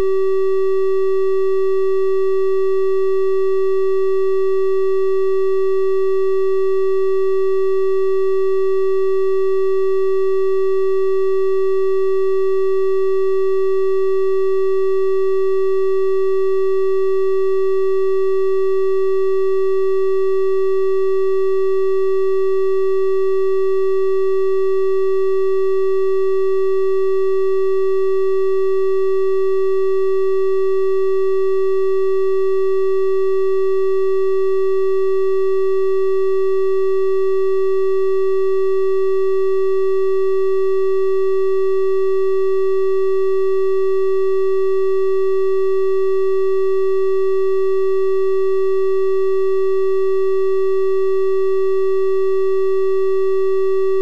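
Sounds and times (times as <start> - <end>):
steady triangle-wave test tone: 0.0 - 54.0.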